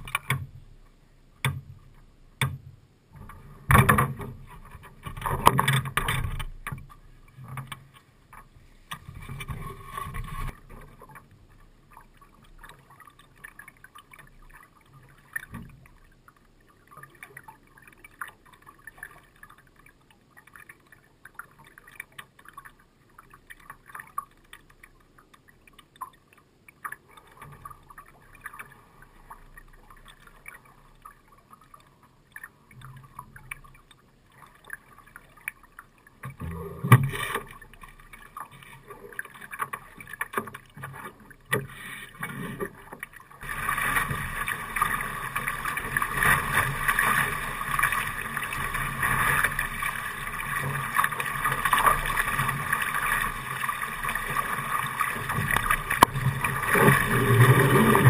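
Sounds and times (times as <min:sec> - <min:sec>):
water lapping against hull: 0:00.0 - 0:58.0
water rushing at bow: 0:00.0 - 0:58.0.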